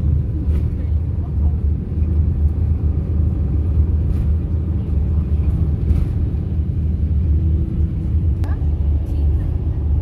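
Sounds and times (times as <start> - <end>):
bus rumble from inside: 0.0 - 10.0.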